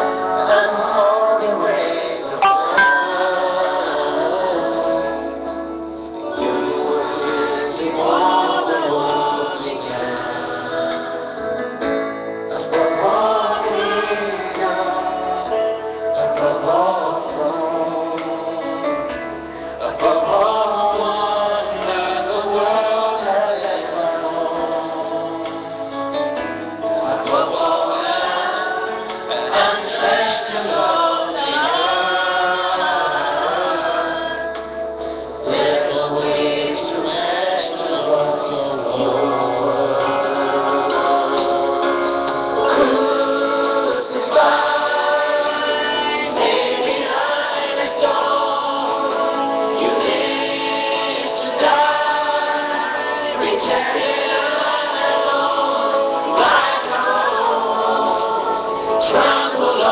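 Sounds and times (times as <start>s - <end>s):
amplified musical accompaniment: 0.0s - 59.9s
group singing gospel: 0.0s - 59.9s.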